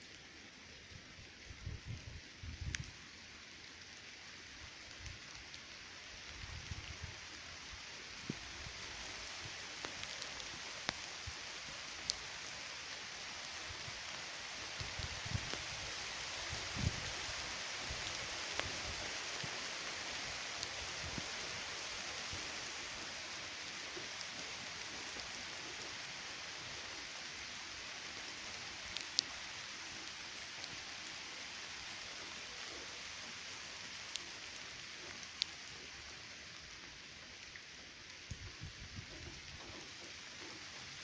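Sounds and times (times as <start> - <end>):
steady rain hissing: 0.0 - 41.0
raindrops tapping: 4.7 - 41.0.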